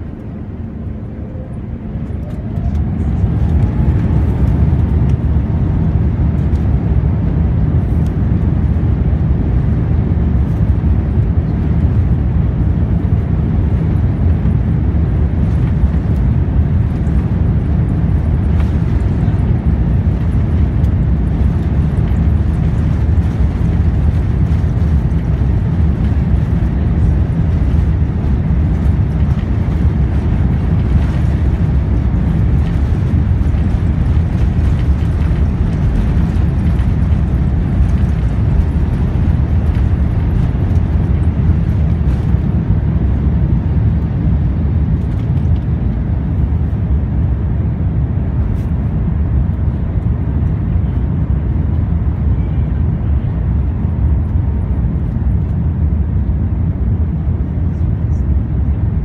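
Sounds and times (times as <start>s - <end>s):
jet engines roaring: 0.0s - 52.9s
runway rumbling and rattling: 0.0s - 59.0s.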